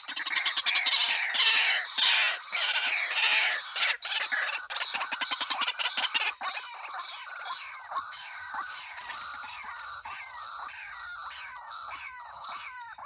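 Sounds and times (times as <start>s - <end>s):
waterhens calling: 0.0s - 13.0s.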